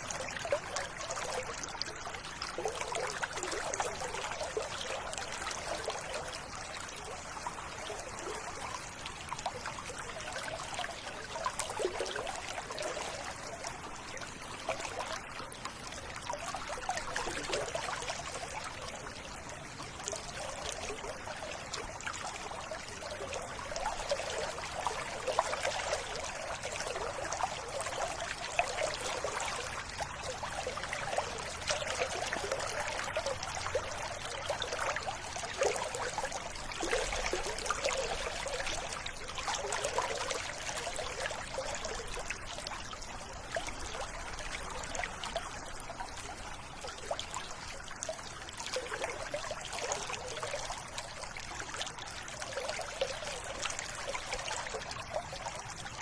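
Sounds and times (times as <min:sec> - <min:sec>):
river water trickling: 0:00.0 - 0:56.0.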